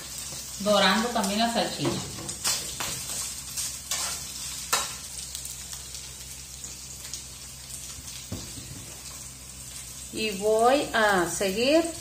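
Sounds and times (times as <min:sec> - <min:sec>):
sausages sizzling in a skillet: 0:00.0 - 0:12.0.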